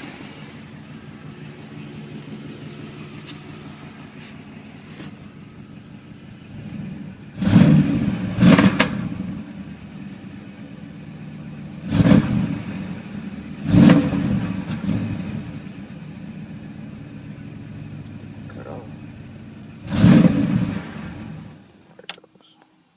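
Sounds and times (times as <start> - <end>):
engine revs: 0.0 - 21.7
car engine idling: 0.0 - 22.6.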